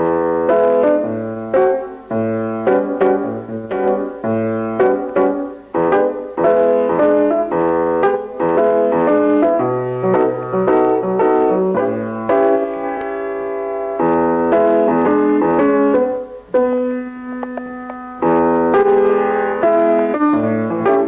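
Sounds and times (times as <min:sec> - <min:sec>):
piano chords over bass line: 0:00.0 - 0:21.0.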